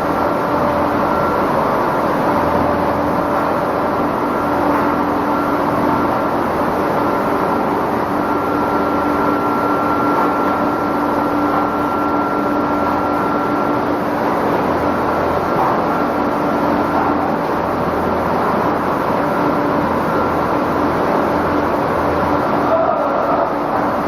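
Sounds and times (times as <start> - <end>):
machine whine: 0.0 - 24.0
production line machinery hum: 0.0 - 24.0.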